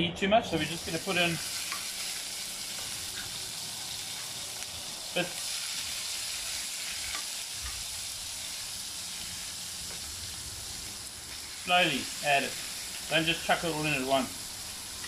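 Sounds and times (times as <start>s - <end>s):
meat sizzling in a frying pan: 0.6s - 15.0s.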